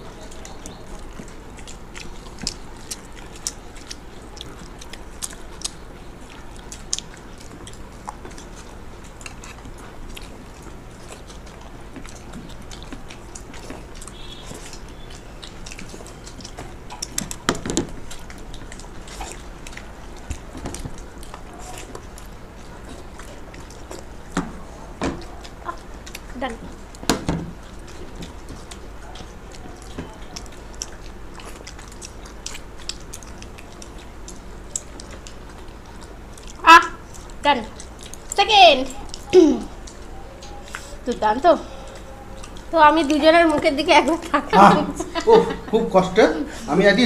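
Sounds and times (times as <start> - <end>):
low steady hum: 0.0 - 47.0
people chewing and smacking: 0.0 - 47.0.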